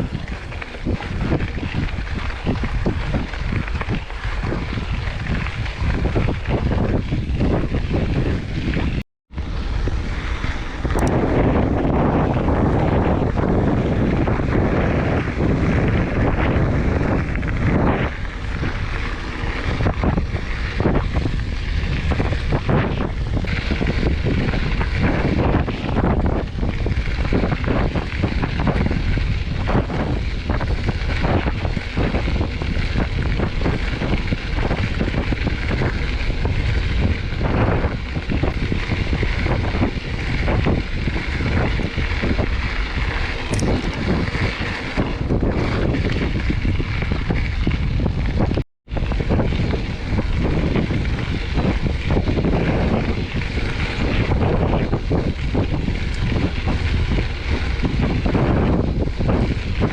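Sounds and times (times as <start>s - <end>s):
bike tyres grinding on dirt: 0.0s - 59.9s
wind buffeting microphone: 0.0s - 59.9s.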